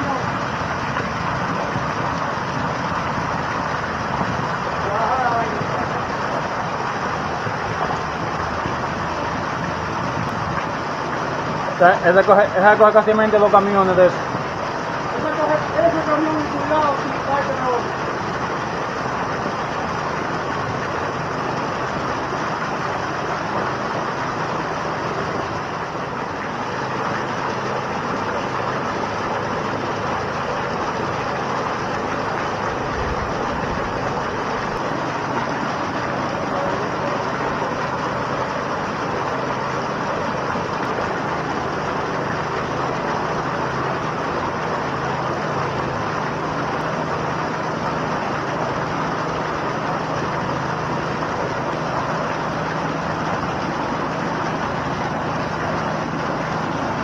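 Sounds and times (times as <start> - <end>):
engine hum: 0.0 - 57.0
water jet splashing into pool: 0.0 - 57.0.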